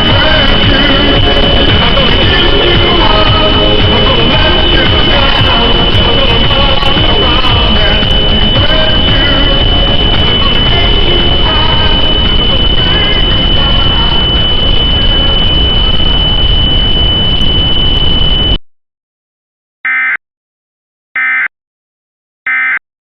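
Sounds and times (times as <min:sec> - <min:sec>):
digital data tones: 0:00.0 - 0:18.6
high-pitched whine: 0:00.0 - 0:18.6
loud harsh static: 0:00.0 - 0:18.6.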